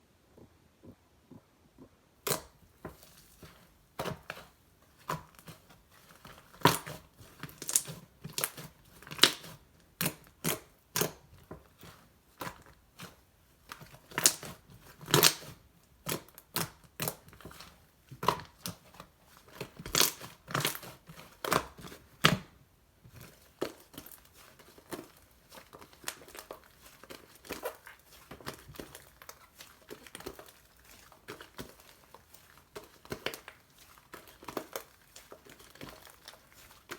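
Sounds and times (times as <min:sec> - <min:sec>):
hands squishing slime: 0:02.2 - 0:36.9.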